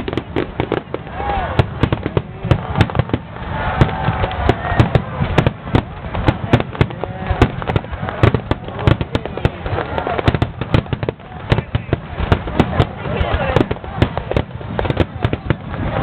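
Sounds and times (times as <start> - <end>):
continuous rumble: 0.0 - 16.0
fireworks bangs and cracks: 0.0 - 16.0.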